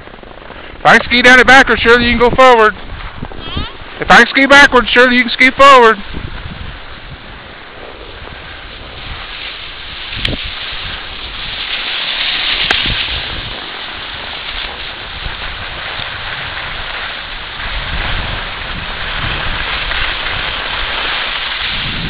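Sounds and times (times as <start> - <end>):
skis sliding over packed snow: 0.0 - 22.0.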